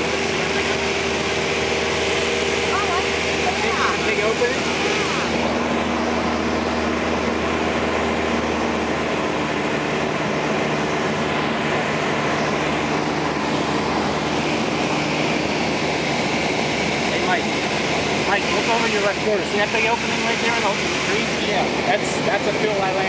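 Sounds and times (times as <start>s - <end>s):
air rushing past cabin: 0.0s - 23.0s
engine and propeller drone: 0.0s - 23.0s.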